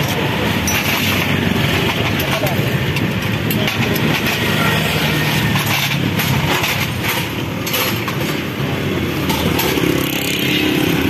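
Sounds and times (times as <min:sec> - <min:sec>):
motor vehicle rumble: 0:00.0 - 0:11.0.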